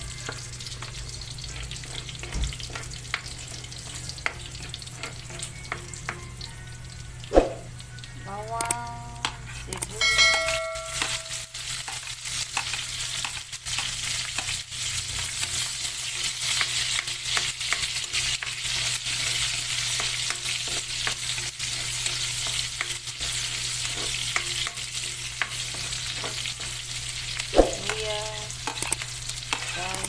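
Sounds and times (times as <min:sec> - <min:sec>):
food sizzling in oil: 0:00.0 - 0:30.0
utensil stirring in pan: 0:00.1 - 0:06.3, 0:09.2 - 0:30.0.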